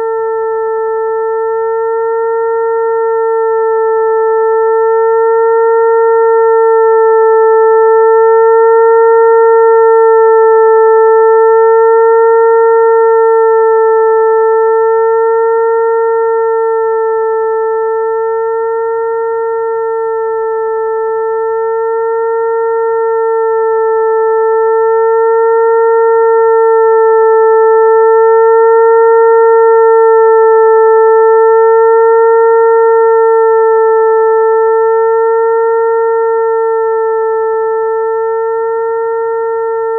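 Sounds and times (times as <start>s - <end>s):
electronic mosquito-like tone: 0.0s - 39.9s.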